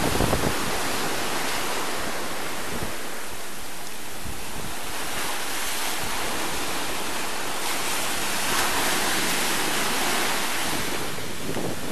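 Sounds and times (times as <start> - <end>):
surf breaking on shore: 0.0 - 11.9.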